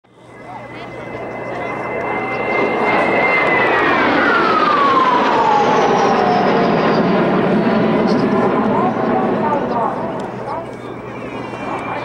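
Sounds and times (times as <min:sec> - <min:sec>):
jet engine rush and whine: 0:00.1 - 0:12.0.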